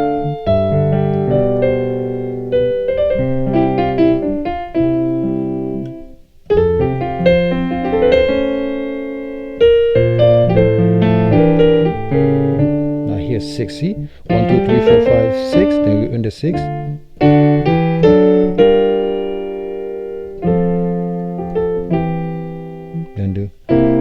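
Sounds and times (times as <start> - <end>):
piano gospel chords: 0.0 - 24.0.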